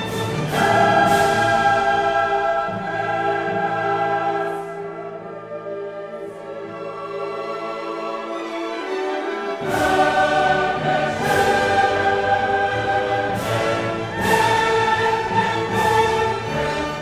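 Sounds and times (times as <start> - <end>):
choir and orchestra chords: 0.0 - 17.0.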